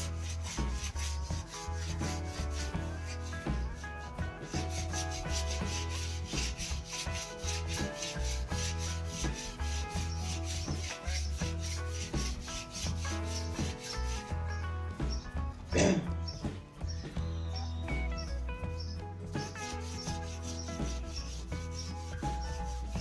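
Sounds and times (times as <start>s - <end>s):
sandpaper rubbing on wood: 0.0s - 15.2s, 18.8s - 23.0s
music with pulsing bass: 0.0s - 23.0s.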